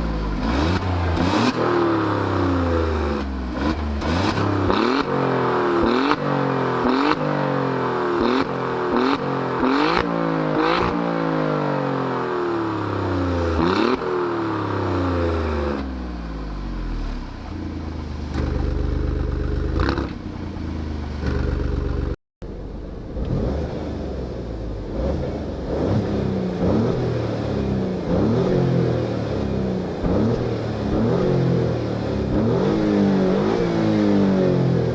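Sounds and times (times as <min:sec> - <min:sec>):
car engine revving: 0:00.0 - 0:15.9, 0:17.0 - 0:34.9.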